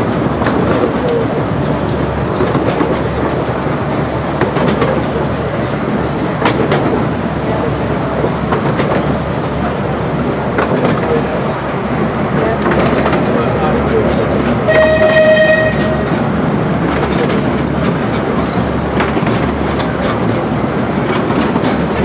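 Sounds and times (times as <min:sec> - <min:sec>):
wheels clicking over rail joints: 0:00.0 - 0:11.4, 0:12.4 - 0:22.0
train wheels rumbling on rails: 0:00.0 - 0:22.0.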